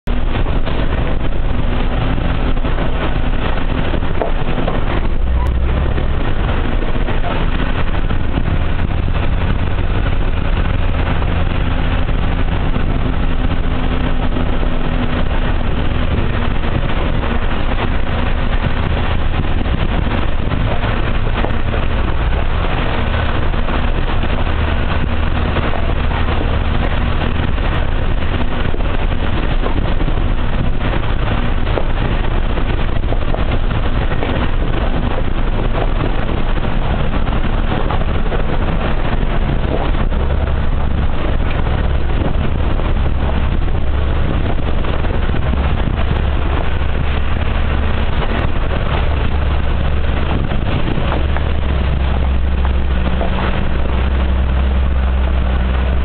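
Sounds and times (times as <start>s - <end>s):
low engine drone: 0.0s - 56.0s
road noise: 0.0s - 56.0s
wind noise: 0.0s - 56.0s.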